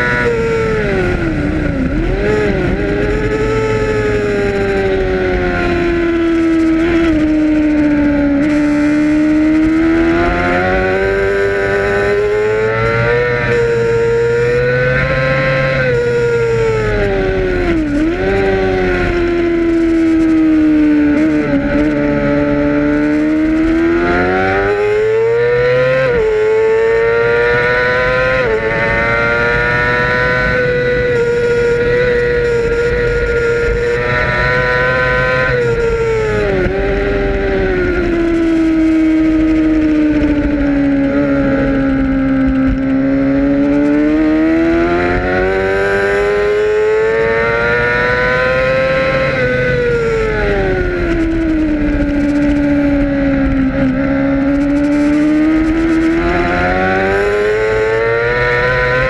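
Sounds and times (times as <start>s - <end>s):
racing motorcycle engine revving: 0.0s - 59.0s
rushing wind noise: 0.0s - 59.0s.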